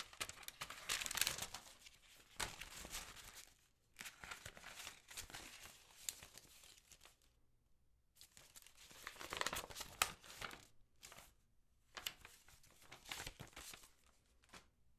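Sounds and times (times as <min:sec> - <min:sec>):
paper envelope tearing and crinkling: 0:00.0 - 0:07.0, 0:08.3 - 0:10.7, 0:12.0 - 0:14.6.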